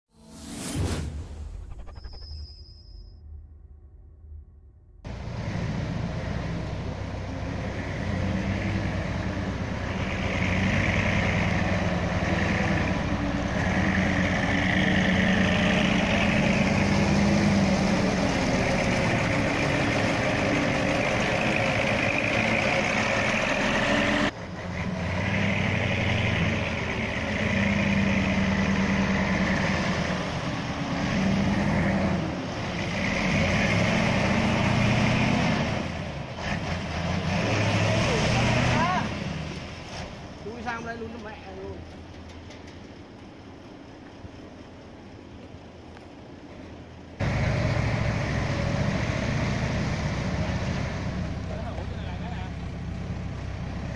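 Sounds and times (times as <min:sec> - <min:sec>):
diesel truck engine running: 0:05.0 - 0:53.9.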